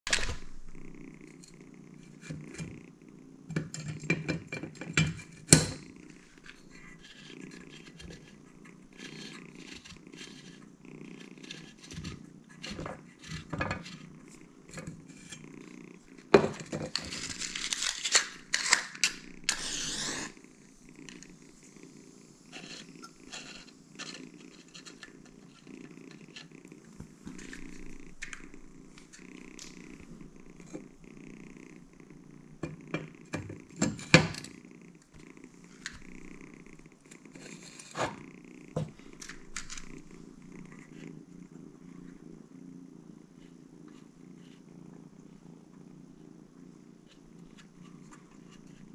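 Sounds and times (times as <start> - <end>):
kitten purring: 0.0 - 48.9.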